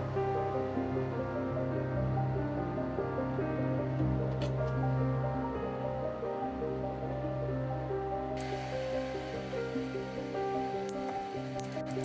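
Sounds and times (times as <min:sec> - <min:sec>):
low drone: 0:00.0 - 0:12.0
slow calm instrumental music: 0:00.0 - 0:12.0.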